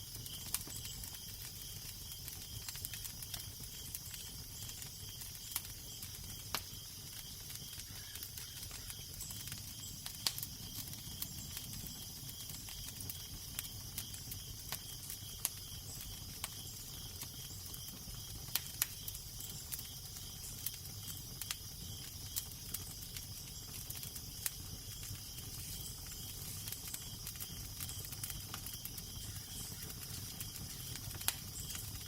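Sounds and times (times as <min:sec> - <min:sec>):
fire crackling: 0:00.0 - 0:32.0.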